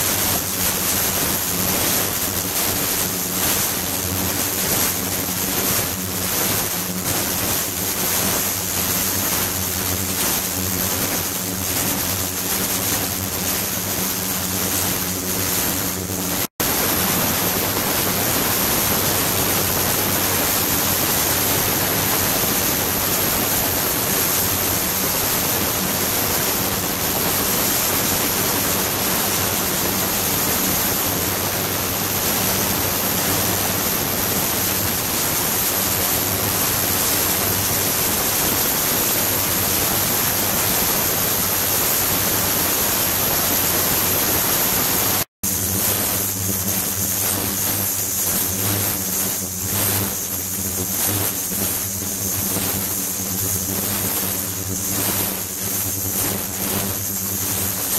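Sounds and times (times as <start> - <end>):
faint high whine: 0.0 - 57.9.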